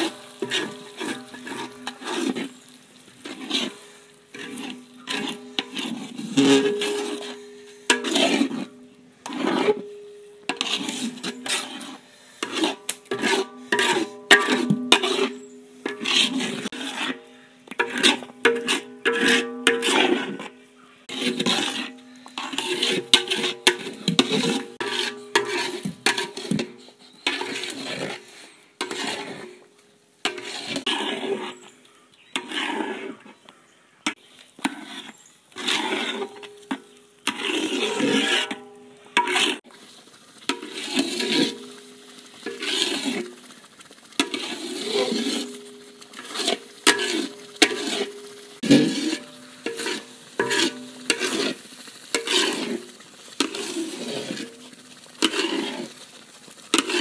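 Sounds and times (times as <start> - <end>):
paddle scraping metal pot: 0.0 - 33.4, 34.0 - 57.0.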